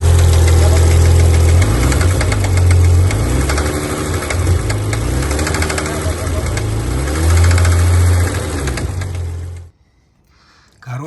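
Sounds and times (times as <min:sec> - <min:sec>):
car engine humming: 0:00.0 - 0:09.7
engine knocking: 0:00.0 - 0:09.7.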